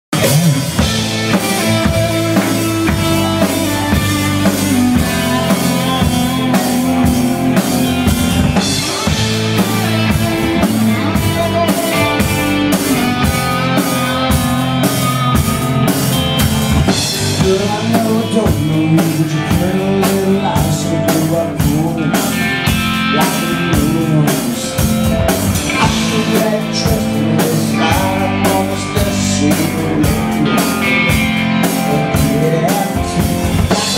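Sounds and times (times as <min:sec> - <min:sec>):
drum kit beat: 0:00.1 - 0:33.9
electric guitar: 0:00.1 - 0:33.9.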